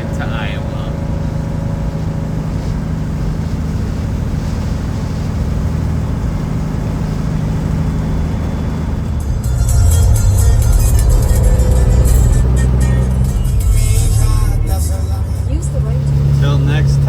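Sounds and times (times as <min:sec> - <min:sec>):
road noise inside cab: 0:00.0 - 0:17.0
truck diesel engine drone: 0:00.0 - 0:17.0.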